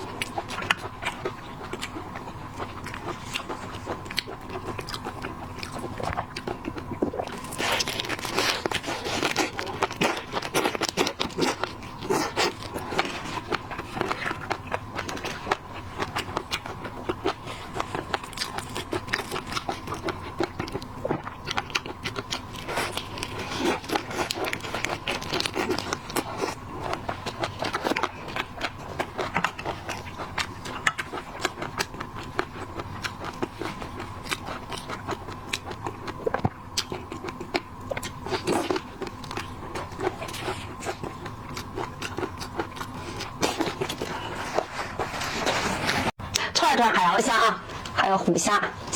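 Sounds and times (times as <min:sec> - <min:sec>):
biting and chewing: 0:00.0 - 0:46.4.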